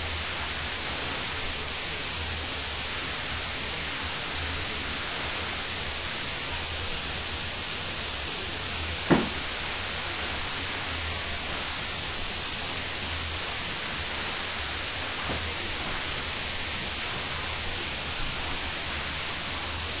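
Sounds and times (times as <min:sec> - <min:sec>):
recording noise hiss: 0:00.0 - 0:20.0.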